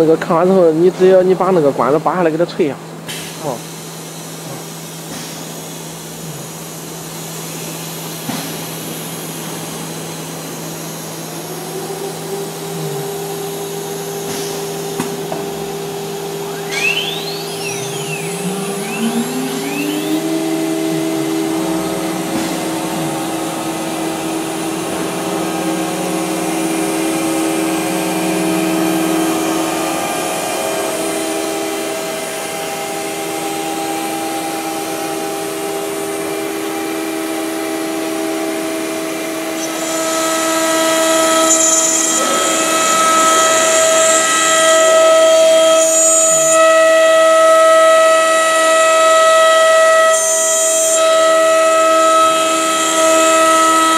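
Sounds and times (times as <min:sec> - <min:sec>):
hiss of wood cutting: 0:03.1 - 0:53.9
router spindle whine: 0:05.5 - 0:53.9.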